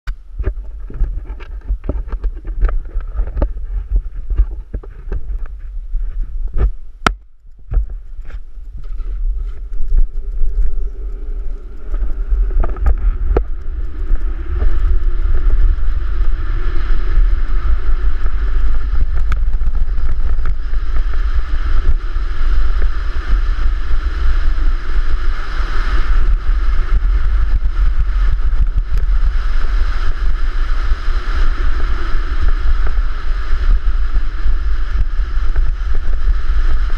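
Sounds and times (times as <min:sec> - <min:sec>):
wind buffeting: 0:00.2 - 0:36.9
sled runners rumbling on concrete: 0:00.4 - 0:36.9.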